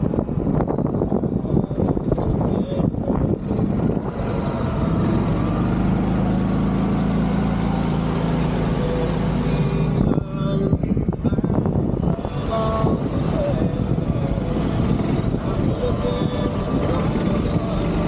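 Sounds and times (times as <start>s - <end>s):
golf cart motor whine: 0.0s - 18.0s.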